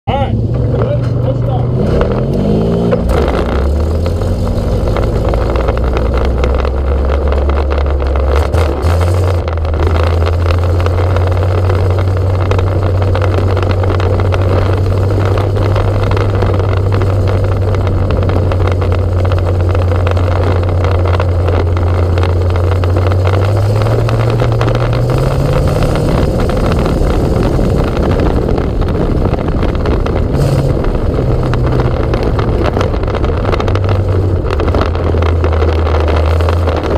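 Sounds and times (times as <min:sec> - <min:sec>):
race car engine revving: 0:00.1 - 0:36.9.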